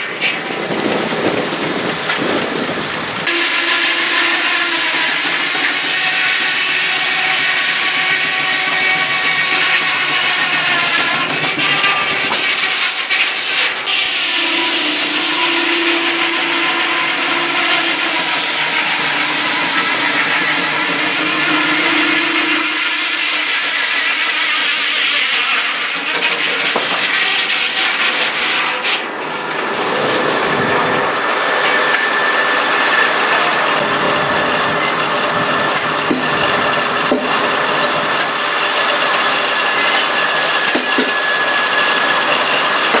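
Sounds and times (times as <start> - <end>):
sawmill saw cutting wood: 0.2 - 43.0.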